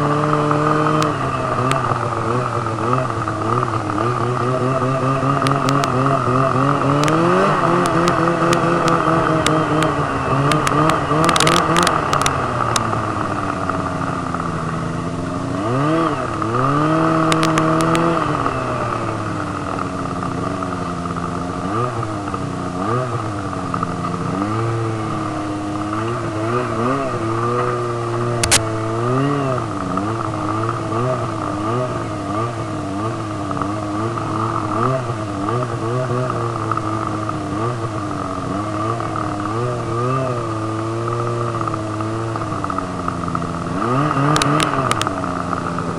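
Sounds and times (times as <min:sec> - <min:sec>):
sharp clicks and clatter: 0:00.0 - 0:26.3, 0:27.0 - 0:28.8, 0:29.6 - 0:45.9
snowmobile engine revving: 0:00.0 - 0:45.9.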